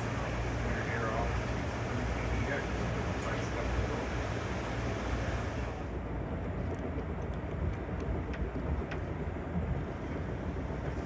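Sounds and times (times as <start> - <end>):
train low rumble from inside: 0.0 - 11.0.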